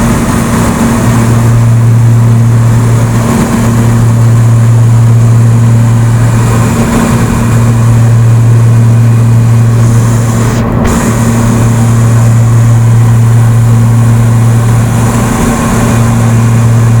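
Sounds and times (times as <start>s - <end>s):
airplane engine drone: 0.0s - 17.0s.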